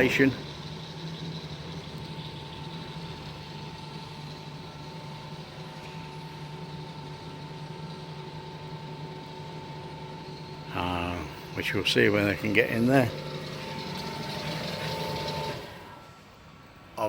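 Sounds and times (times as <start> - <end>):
motor and gearbox hum: 0.0 - 17.0.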